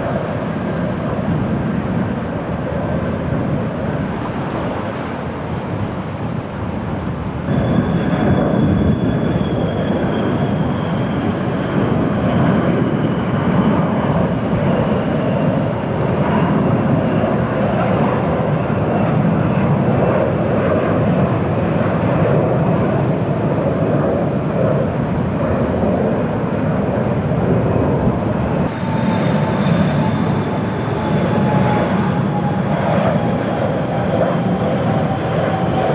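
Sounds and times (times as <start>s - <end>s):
high engine whine: 0.0s - 35.9s
jet engine rushing: 0.0s - 35.9s.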